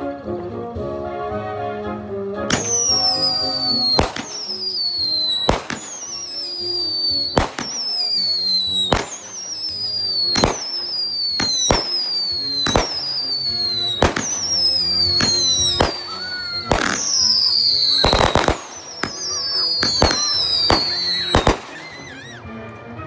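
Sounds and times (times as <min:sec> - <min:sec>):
firework bangs: 0:02.5 - 0:22.4
firework whistle falling in pitch: 0:02.5 - 0:22.4.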